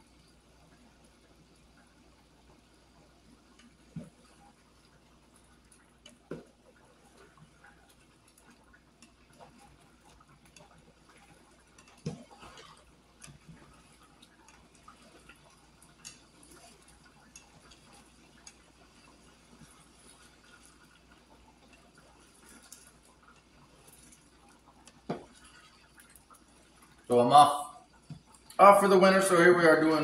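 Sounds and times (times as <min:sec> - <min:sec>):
meat simmering ticks and pops: 0:00.0 - 0:30.0.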